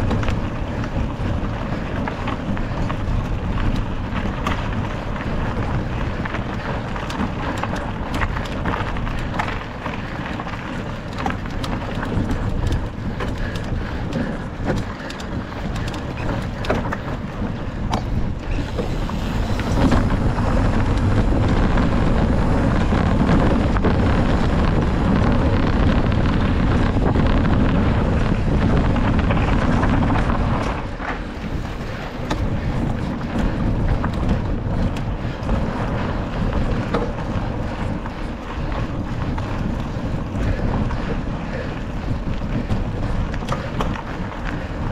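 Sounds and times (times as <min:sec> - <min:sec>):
bike clicks and rattles: 0:00.0 - 0:44.9
low rumble: 0:00.0 - 0:44.9
wind rushing over microphone: 0:00.0 - 0:44.9.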